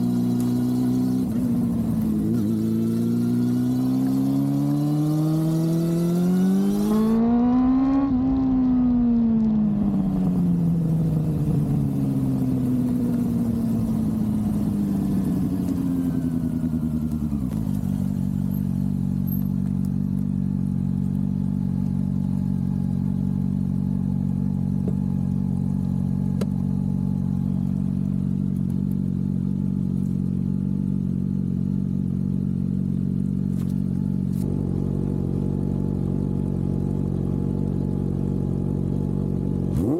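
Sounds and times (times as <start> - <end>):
motorcycle engine slowing to idle: 0.0 - 4.7, 8.9 - 39.9.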